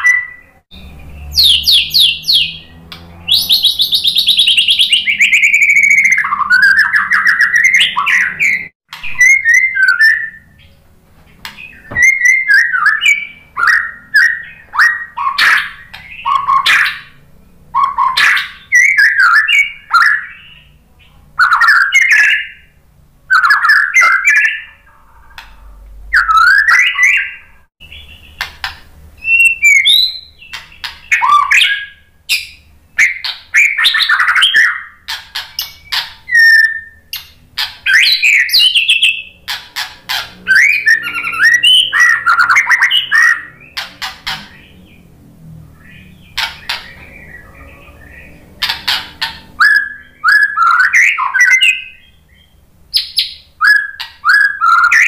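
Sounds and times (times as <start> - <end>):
bird singing whistled notes: 0.0 - 10.8, 11.5 - 24.7, 26.1 - 28.4, 29.2 - 39.5, 40.1 - 45.0, 45.8 - 55.0.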